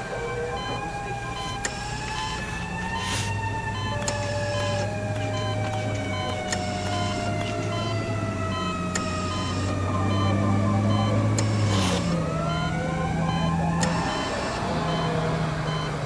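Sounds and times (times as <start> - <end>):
siren-like electronic tone: 0.0 - 16.0
clicks: 0.5 - 15.1.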